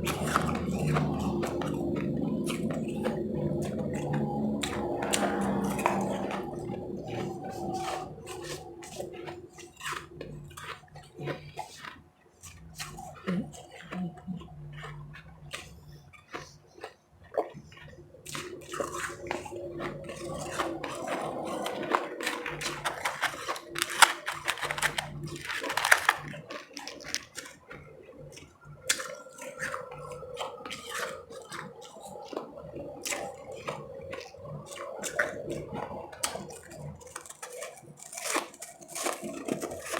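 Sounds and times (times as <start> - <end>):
chewing ice chips: 0.0 - 39.9.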